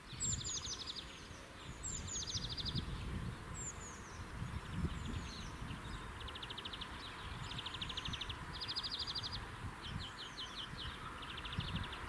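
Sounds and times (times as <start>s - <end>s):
songbirds trilling and chirping: 0.0s - 12.0s.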